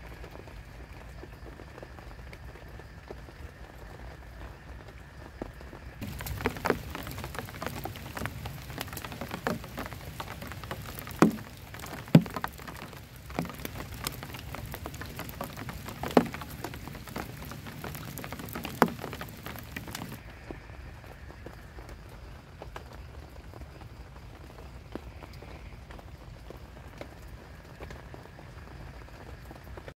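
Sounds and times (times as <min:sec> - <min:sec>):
heavy raindrops striking: 0:00.0 - 0:29.9
rain falling: 0:00.0 - 0:29.9.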